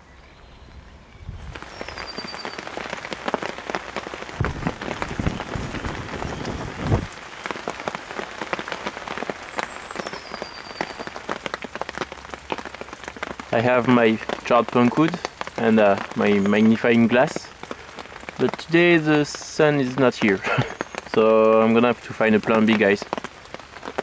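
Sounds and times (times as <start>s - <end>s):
rain falling on puddle: 1.5s - 24.0s.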